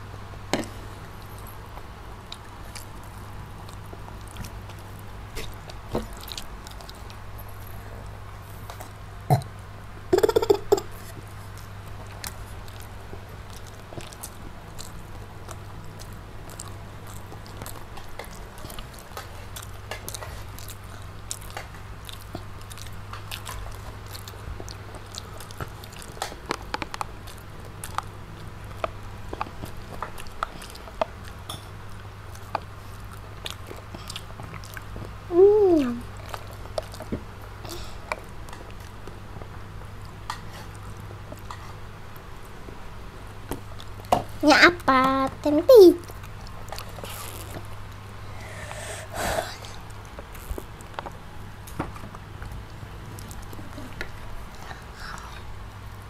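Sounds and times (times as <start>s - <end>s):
steady low hum: 0.0s - 56.0s
children chewing and biting: 0.6s - 9.5s, 10.2s - 56.0s.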